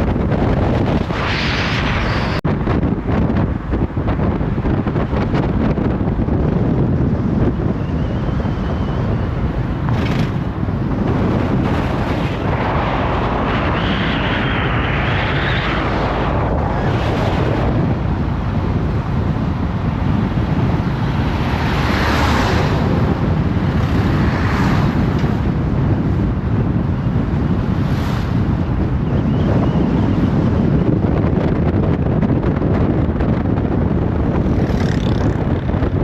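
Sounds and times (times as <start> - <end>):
road and engine rumble: 0.0 - 36.0
wind buffeting microphone: 0.0 - 36.0.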